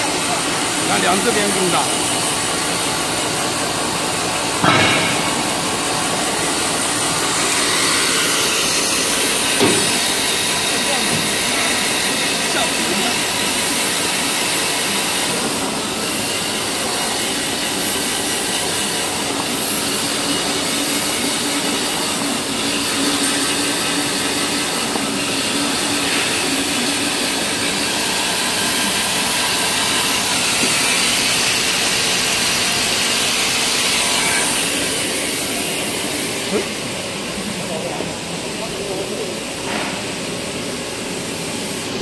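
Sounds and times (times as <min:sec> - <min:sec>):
band saw whirring hiss: 0:00.0 - 0:38.2.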